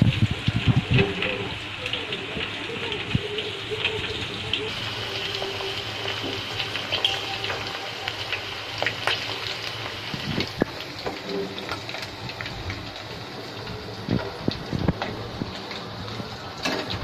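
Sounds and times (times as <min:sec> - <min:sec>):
prawns sizzling in hot oil: 0:00.0 - 0:17.0.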